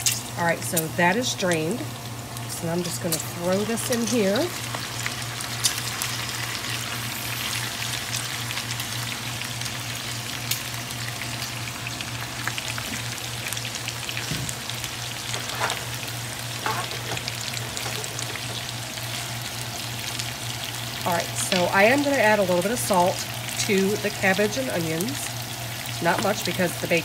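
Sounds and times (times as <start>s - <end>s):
bacon sizzling in a pan: 0.0s - 27.0s.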